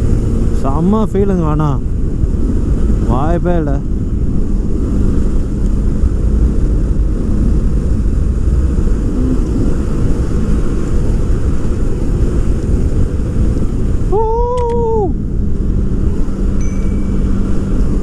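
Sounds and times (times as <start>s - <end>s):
motorcycle engine rumble: 0.0s - 18.0s
wind rush on microphone: 0.0s - 18.0s.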